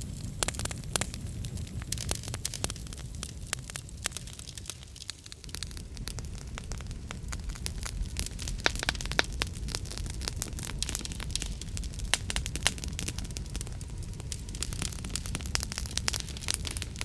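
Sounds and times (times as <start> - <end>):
fire flames rumbling: 0.0 - 17.0
fire popping: 0.0 - 17.0
wood fire crackling: 0.0 - 17.0.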